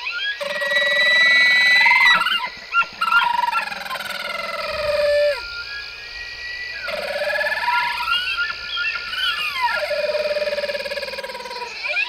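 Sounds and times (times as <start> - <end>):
bull elk bugling: 0.4 - 5.5, 6.8 - 12.0.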